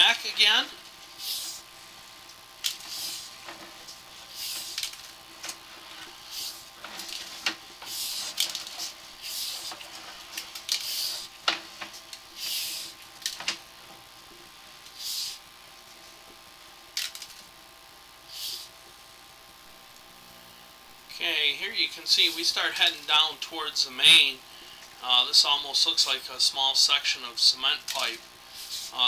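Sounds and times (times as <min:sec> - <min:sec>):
faint electronic hum: 0:00.0 - 0:29.0.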